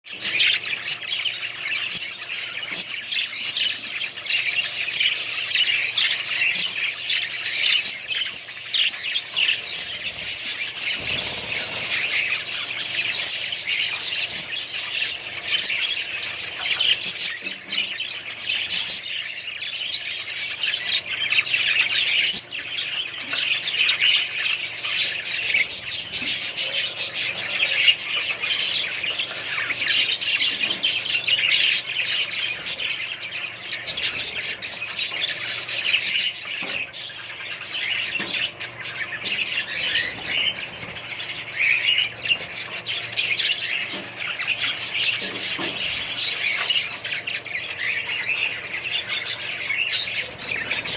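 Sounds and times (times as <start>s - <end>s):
budgerigars chirping and chattering: 0.0s - 50.9s.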